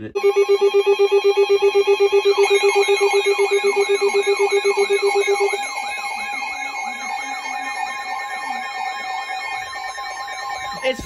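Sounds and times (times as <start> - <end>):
steady high alert tones: 0.0 - 11.0.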